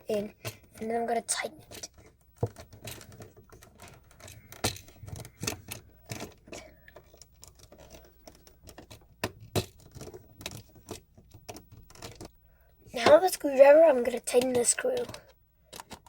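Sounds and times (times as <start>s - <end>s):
wire clicking and scraping on terminal: 0.3s - 16.0s.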